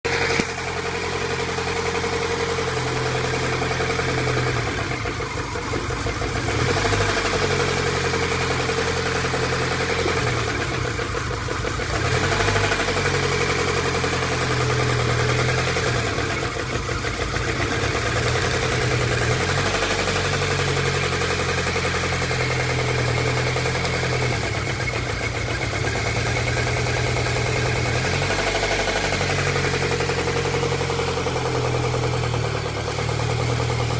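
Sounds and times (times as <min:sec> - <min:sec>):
car engine idling with a knock: 0:00.1 - 0:33.9.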